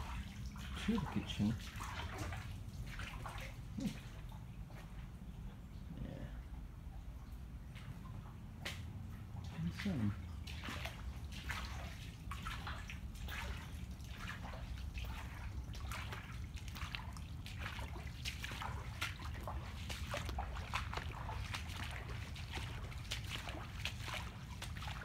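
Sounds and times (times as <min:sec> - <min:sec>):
footsteps splashing through water: 0:00.0 - 0:05.2, 0:07.6 - 0:25.0
water dripping: 0:00.0 - 0:06.0, 0:06.8 - 0:25.0.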